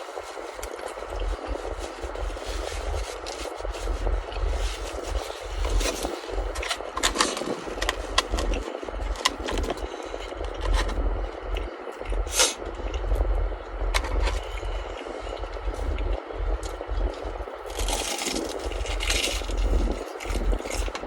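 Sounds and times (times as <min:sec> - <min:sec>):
crunchy eating clicks and scrapes: 0:00.0 - 0:21.0
low microphone rumble: 0:00.0 - 0:21.0.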